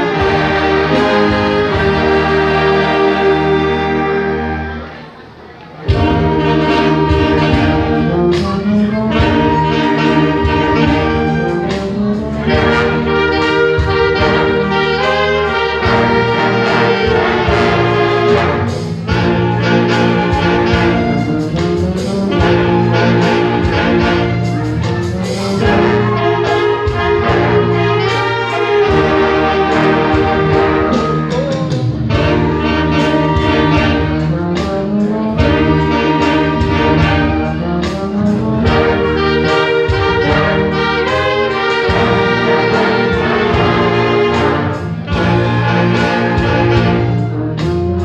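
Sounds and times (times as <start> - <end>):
orchestra with brass playing: 0.0 - 48.0.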